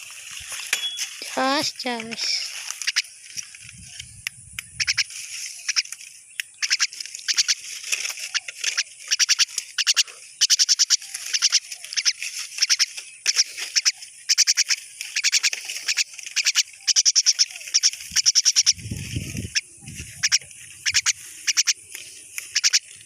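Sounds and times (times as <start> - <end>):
rapid high-pitched animal clicks: 1.3 - 23.0.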